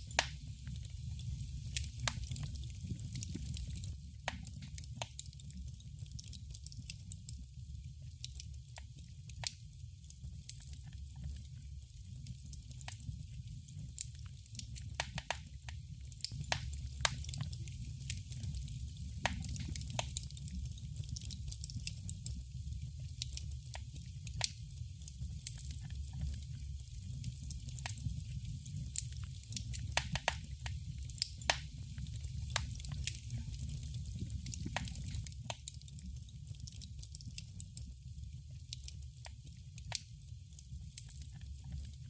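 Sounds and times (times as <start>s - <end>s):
low rumble of fire: 0.0s - 42.0s
wood fire popping and snapping: 0.0s - 42.0s.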